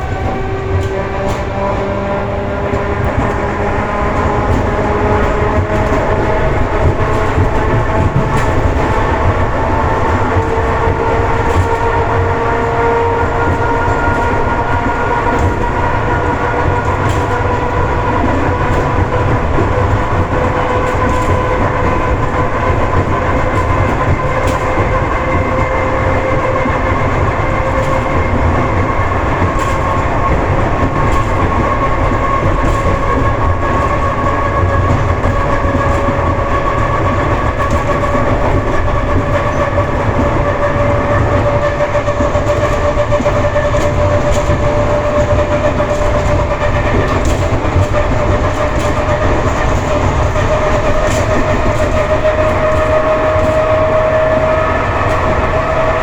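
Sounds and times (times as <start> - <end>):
electric train motor whine: 0.0 - 56.0
train running noise: 0.0 - 56.0
wheels clicking over rail joints: 0.0 - 56.0.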